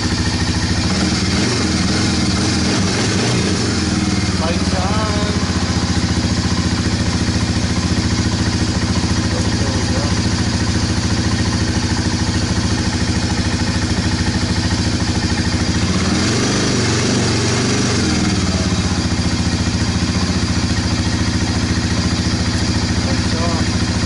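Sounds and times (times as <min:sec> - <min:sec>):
atv engine idling and revving: 0:00.0 - 0:24.0.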